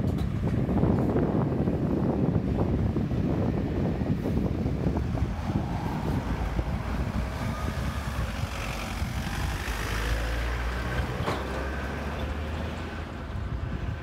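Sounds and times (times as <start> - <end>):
engine rumbling: 0.0 - 14.0
wind buffeting microphone: 0.0 - 14.0.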